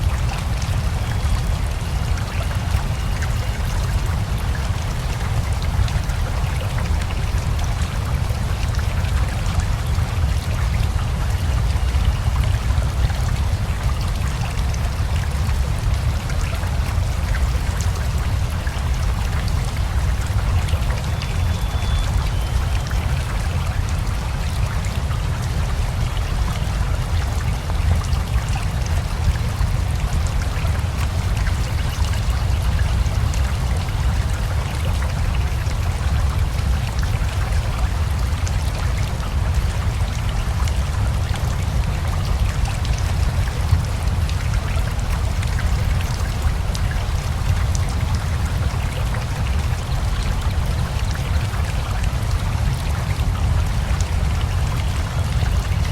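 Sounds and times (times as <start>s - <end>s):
rushing river water: 0.0s - 55.9s
steady rain: 0.0s - 55.9s.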